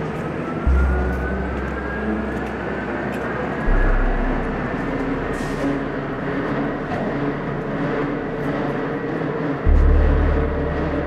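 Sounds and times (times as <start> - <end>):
lift bridge machinery humming: 0.0 - 11.0.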